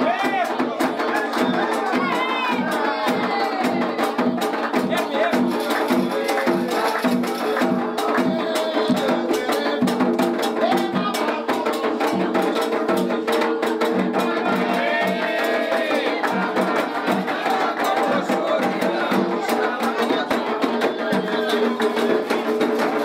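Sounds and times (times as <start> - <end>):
hand drums beating fast rhythm: 0.0 - 23.0
voices singing: 0.0 - 23.0.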